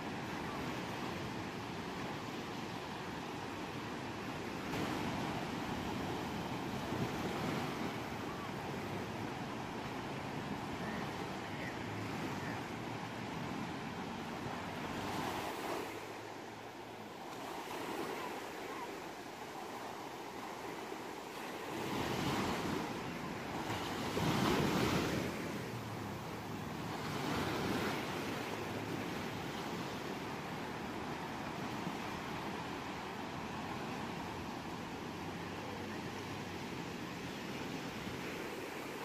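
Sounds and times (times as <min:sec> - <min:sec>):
ocean waves breaking: 0:00.0 - 0:39.0.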